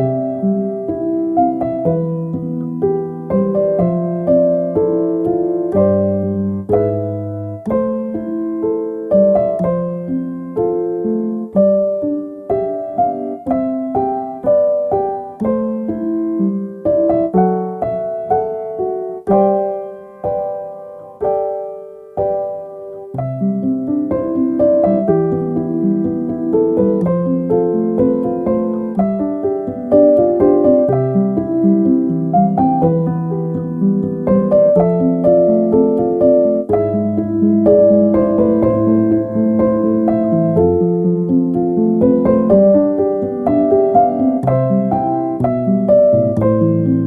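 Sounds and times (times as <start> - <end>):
gentle solo piano: 0.0 - 47.0.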